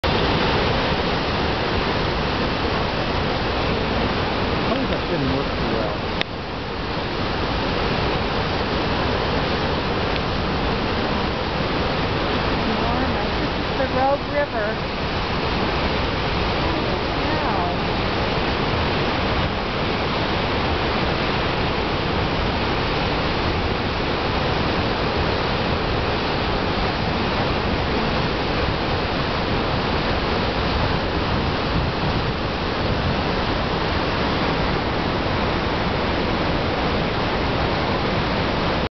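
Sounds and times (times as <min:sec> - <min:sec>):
white water rushing: 0:00.0 - 0:38.9.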